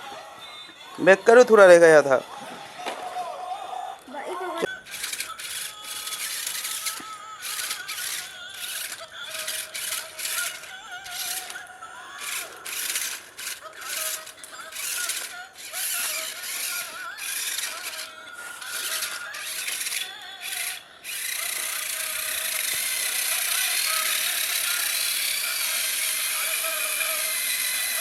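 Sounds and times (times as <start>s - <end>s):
toy truck motor whirring: 0.0s - 28.0s.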